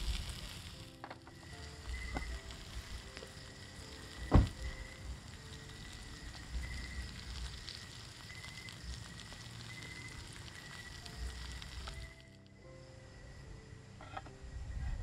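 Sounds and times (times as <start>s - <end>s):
fish sizzling in a skillet: 0.0s - 12.4s.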